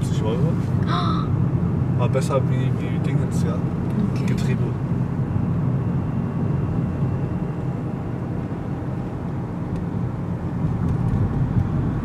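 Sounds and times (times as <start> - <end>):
car engine from inside cabin: 0.0 - 12.0
tyre road noise: 0.0 - 12.0.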